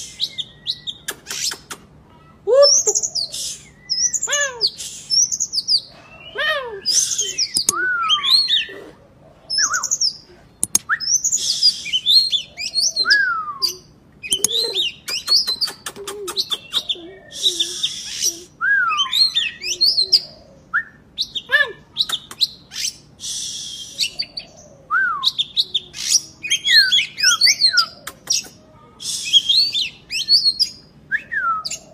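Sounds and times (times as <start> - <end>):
magpie-robin singing: 0.0 - 1.7, 2.6 - 8.7, 9.5 - 31.9.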